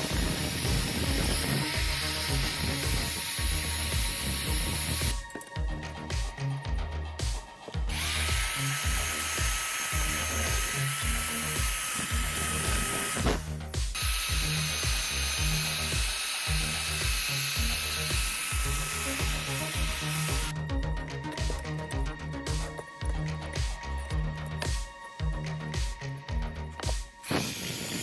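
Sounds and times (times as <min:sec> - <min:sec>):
electric drill whining: 0:00.0 - 0:06.1, 0:07.7 - 0:25.7, 0:26.4 - 0:28.0
background music with steady beat: 0:00.0 - 0:28.0.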